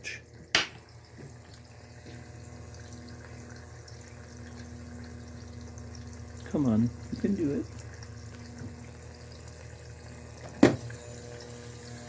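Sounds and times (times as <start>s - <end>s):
electrical hiss and hum: 0.0s - 12.0s.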